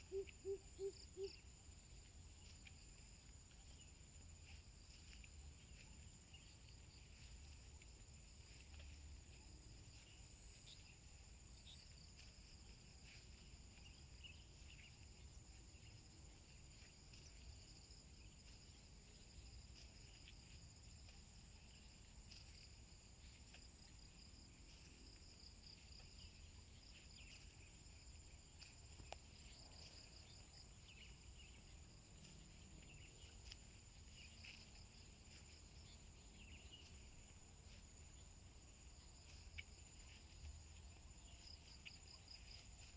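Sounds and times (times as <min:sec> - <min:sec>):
insects chirping: 0:00.0 - 0:42.9.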